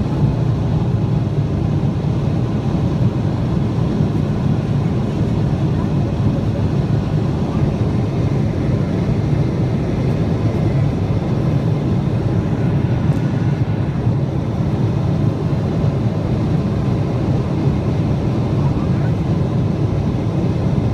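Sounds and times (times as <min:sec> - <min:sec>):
jet engine drone in cabin: 0:00.0 - 0:20.9.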